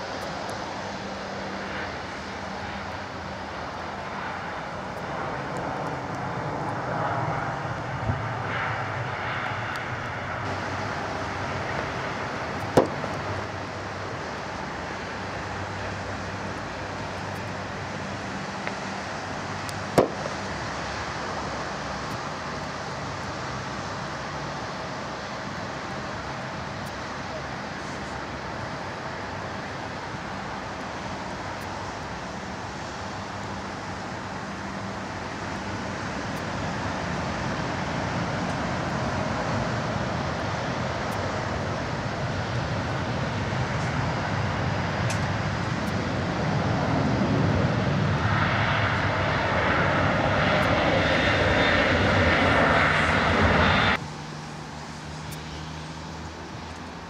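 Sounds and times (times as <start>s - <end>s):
distant jet engine noise: 0.0s - 57.0s.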